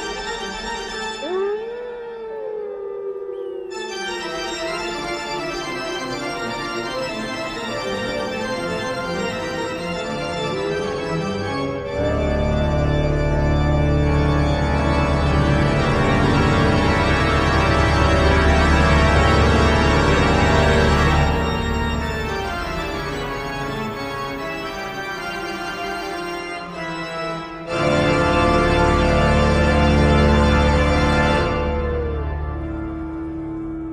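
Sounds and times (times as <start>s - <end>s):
organ playing slow chords: 0.0s - 33.9s.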